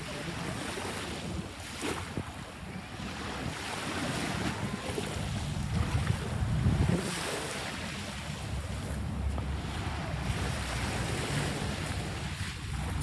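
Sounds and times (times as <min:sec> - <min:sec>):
sea waves washing: 0:00.0 - 0:13.0
wind buffeting microphone: 0:00.3 - 0:13.0.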